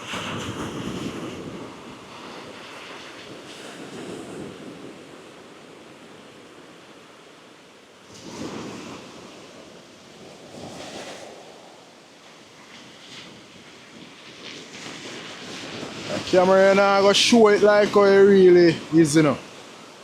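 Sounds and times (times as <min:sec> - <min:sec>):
wind on microphone: 0:00.0 - 0:06.8, 0:08.1 - 0:20.0
sea surf breaking: 0:00.0 - 0:20.0.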